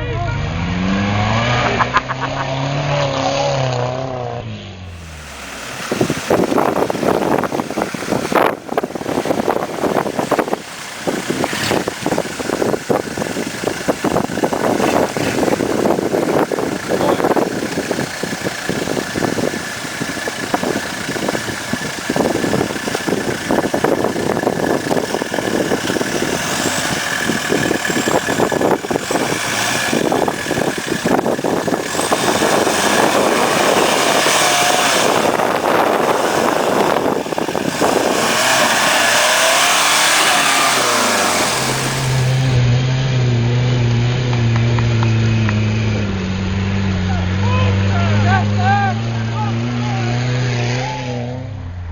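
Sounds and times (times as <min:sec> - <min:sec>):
off-road vehicle engine revving: 0:00.0 - 0:51.9.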